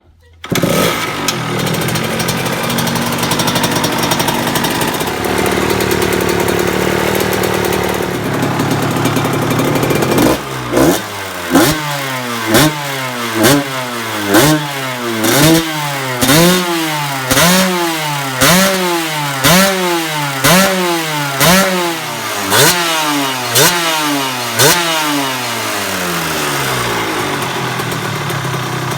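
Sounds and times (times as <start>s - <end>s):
two-stroke motorcycle engine revving: 0.4s - 28.9s.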